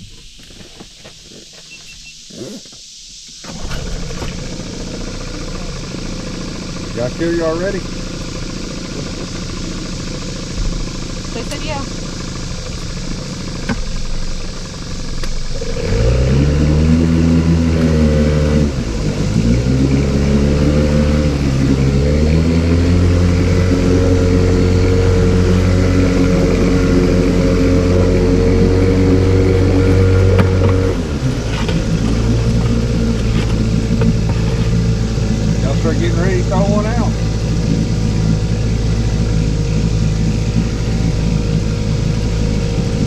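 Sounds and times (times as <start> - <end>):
outboard motor revving: 3.4 - 43.0.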